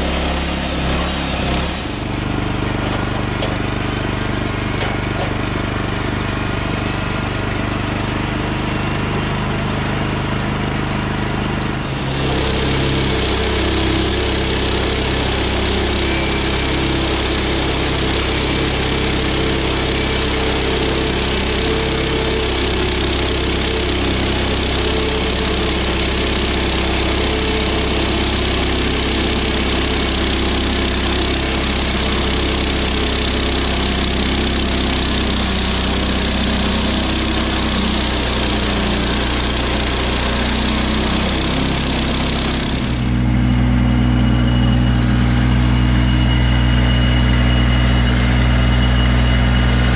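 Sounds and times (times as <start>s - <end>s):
small gas engine running: 0.0s - 49.9s.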